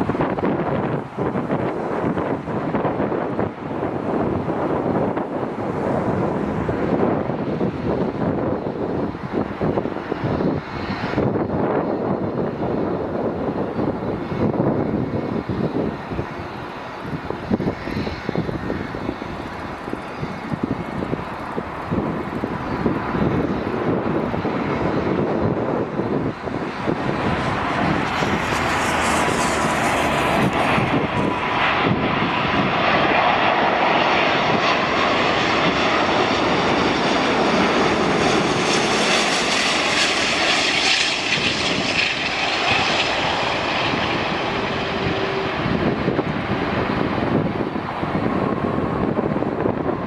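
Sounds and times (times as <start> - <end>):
jet airliner passing: 0.0 - 50.0
wind buffeting microphone: 0.0 - 50.0.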